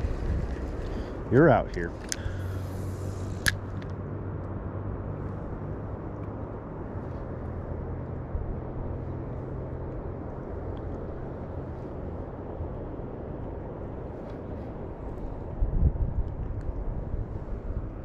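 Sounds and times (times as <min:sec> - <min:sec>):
faint hum: 0:00.0 - 0:18.0
low outdoor rumble: 0:00.0 - 0:18.0.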